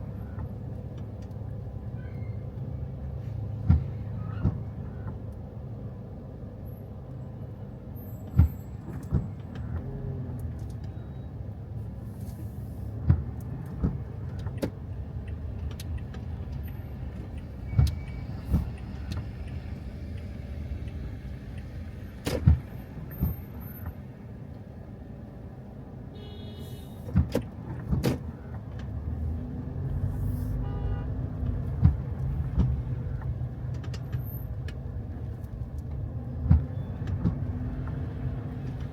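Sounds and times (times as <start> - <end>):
car road noise rumble: 0.0 - 38.9.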